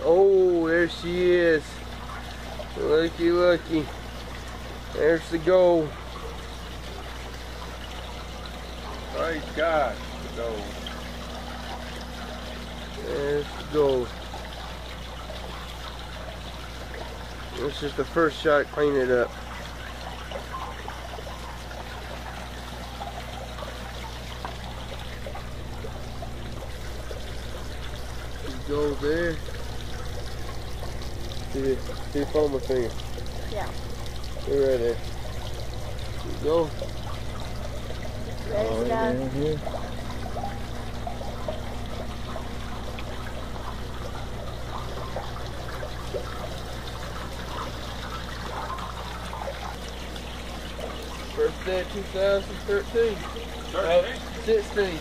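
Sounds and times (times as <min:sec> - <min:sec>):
low machinery hum: 0:00.0 - 0:55.0
water trickling and splashing: 0:00.0 - 0:55.0.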